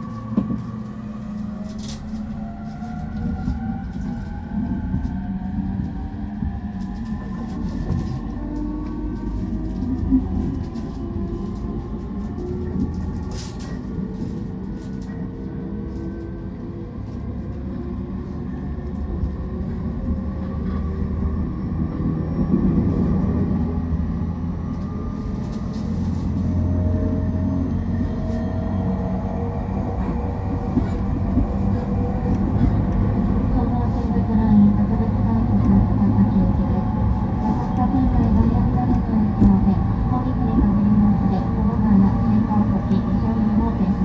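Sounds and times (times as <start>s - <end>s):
train wheel and rail rumble: 0.0s - 44.0s.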